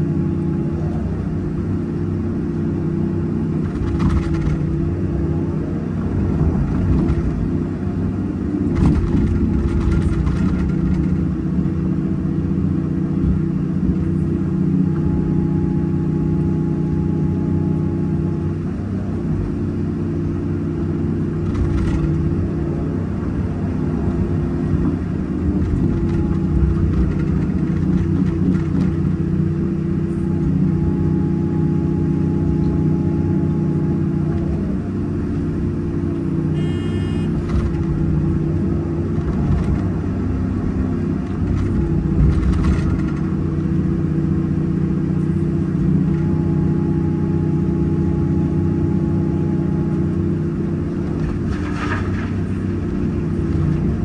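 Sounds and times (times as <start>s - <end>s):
excavator diesel engine and hydraulics: 0.0s - 54.0s.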